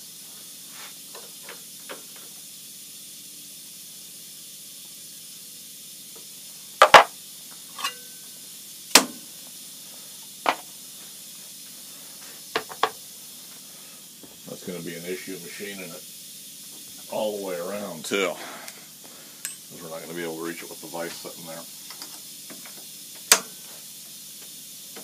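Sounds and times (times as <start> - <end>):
steady low hiss: 0.0 - 25.0.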